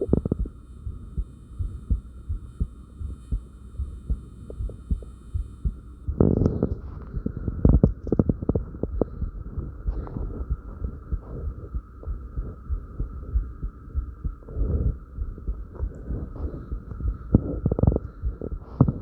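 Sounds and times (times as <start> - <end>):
faint steady hum: 0.0 - 19.0
fast heartbeat thumps: 0.0 - 19.0
soft breath: 3.0 - 19.0.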